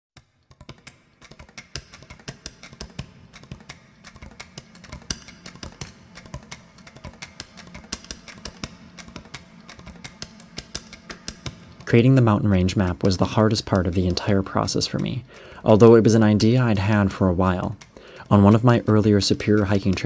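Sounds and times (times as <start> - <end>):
computer keyboard keys clicking: 0.2 - 20.0
quiet background music: 0.2 - 20.0.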